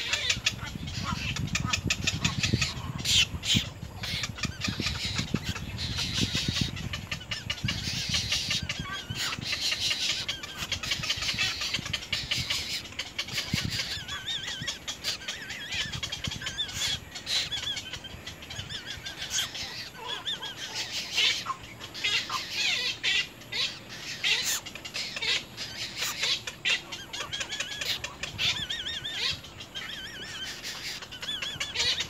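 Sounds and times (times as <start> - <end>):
egret chicks chattering calls: 0.0 - 32.0.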